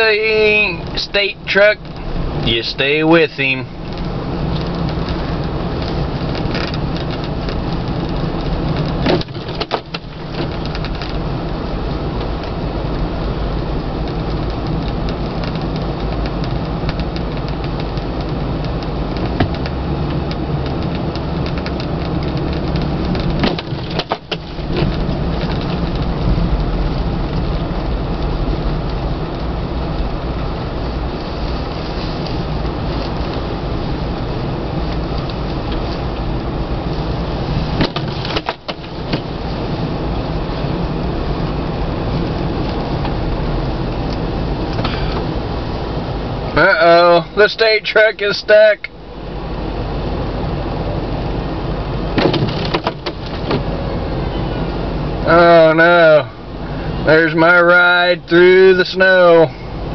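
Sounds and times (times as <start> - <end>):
vehicle engine hum: 0.0 - 59.9.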